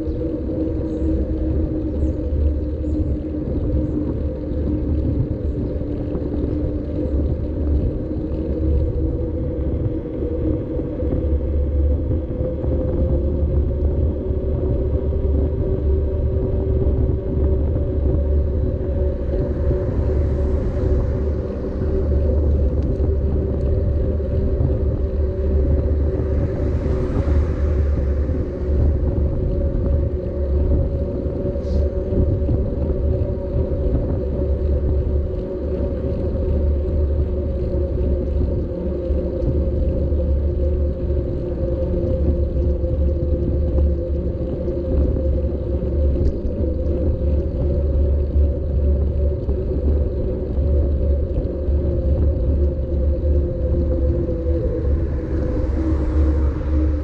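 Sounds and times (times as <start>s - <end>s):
bicycle road noise: 0.0s - 57.0s
low hum: 0.0s - 57.0s
wind rumble: 0.0s - 57.0s.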